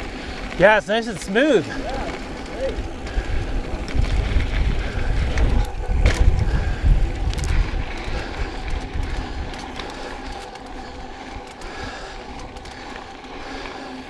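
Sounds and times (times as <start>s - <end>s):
bike clicks and rattles: 0.0s - 14.0s
bike tyre noise: 0.0s - 14.0s
wind buffeting microphone: 1.4s - 13.3s.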